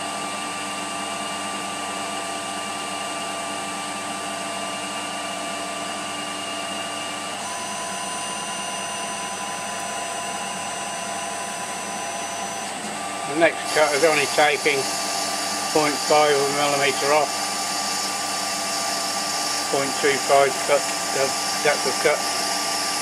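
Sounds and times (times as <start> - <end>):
lathe machine whine: 0.0 - 23.0.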